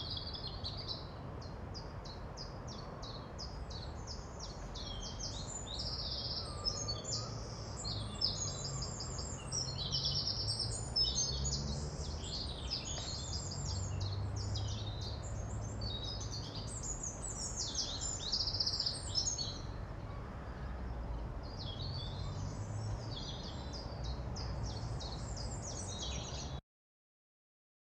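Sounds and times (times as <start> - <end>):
small birds chirping and singing: 0.0 - 19.8, 21.1 - 26.6.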